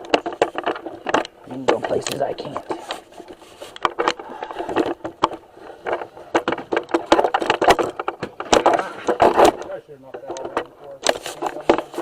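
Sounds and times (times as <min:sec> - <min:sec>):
hand tools clicking and knocking: 0:00.0 - 0:12.0.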